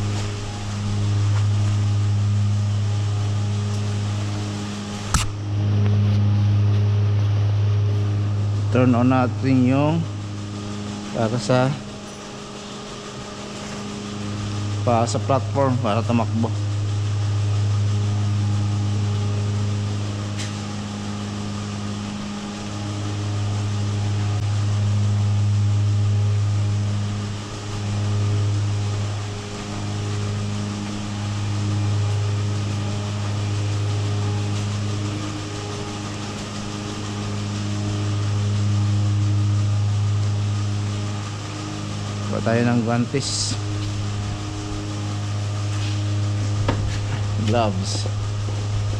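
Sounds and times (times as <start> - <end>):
deep electric machinery hum: 0.0 - 48.9.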